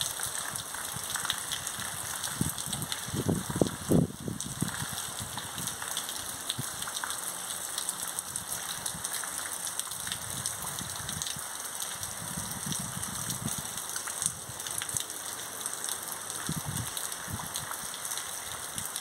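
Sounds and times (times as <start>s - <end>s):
wind rumbling on microphone: 0.0s - 6.9s, 8.3s - 9.2s, 9.9s - 15.1s, 16.3s - 19.0s
heavy rain pouring: 0.0s - 19.0s.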